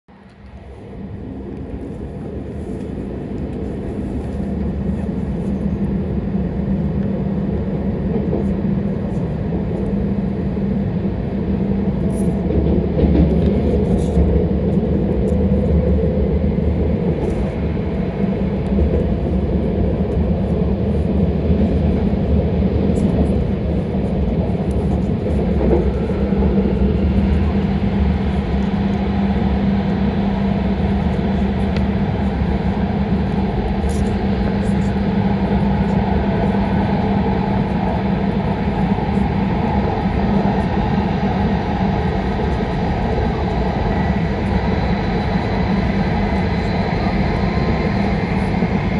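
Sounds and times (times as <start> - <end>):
train cabin rumble: 0.1 - 48.9.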